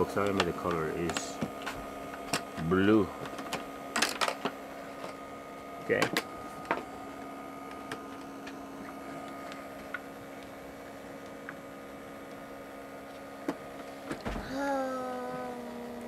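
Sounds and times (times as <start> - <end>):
blower fan humming: 0.0 - 16.0.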